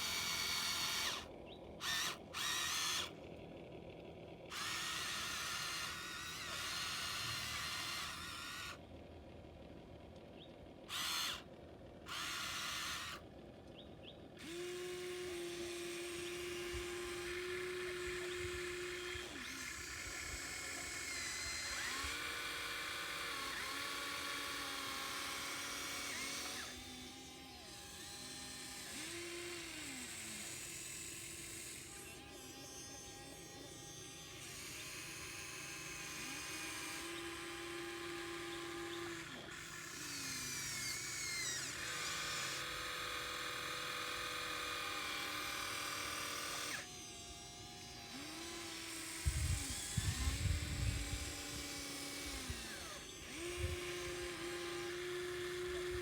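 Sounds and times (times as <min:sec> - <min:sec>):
small electric motors whining: 0:00.0 - 0:56.0.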